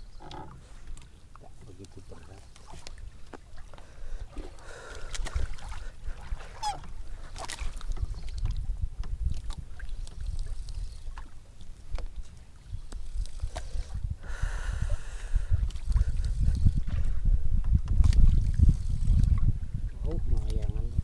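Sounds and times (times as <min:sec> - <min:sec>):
low rumble of wind and water: 0:00.0 - 0:21.0.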